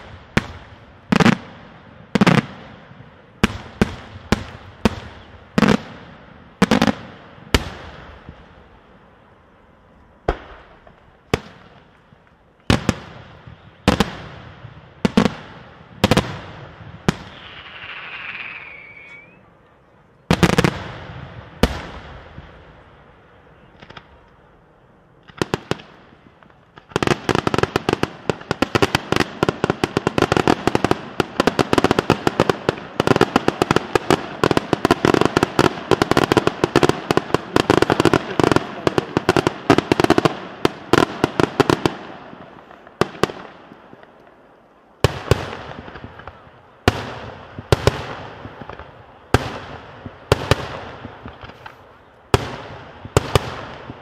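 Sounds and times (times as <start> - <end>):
loud firework bangs: 0.0 - 8.8, 10.2 - 19.4, 20.3 - 24.3, 25.2 - 44.2, 45.0 - 54.0
fireworks bangs and crackles: 0.0 - 19.4, 20.2 - 54.0.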